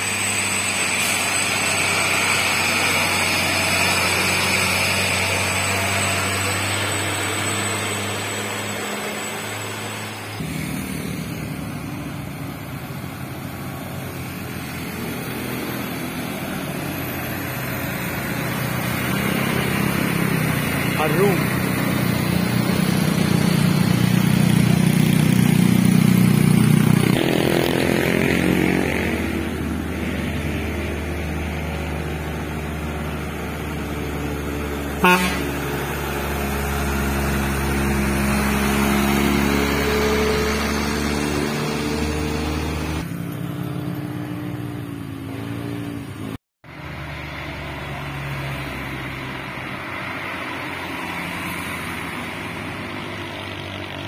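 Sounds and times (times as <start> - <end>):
heavy diesel engines labouring uphill: 0.0 - 54.0.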